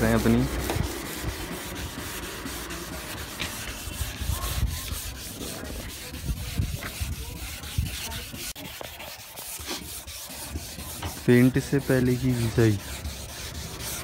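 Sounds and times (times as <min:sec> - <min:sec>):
sandpaper rubbing wet paint: 0:00.0 - 0:14.0.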